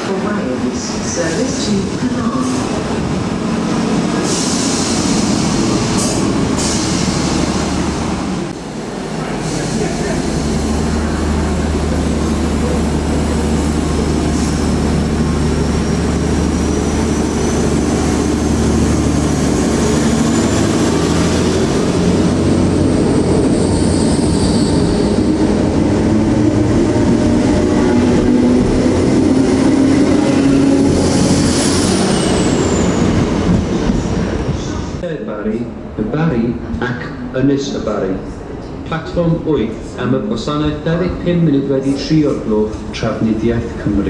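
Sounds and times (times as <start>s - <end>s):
train engine: 0.0s - 44.0s.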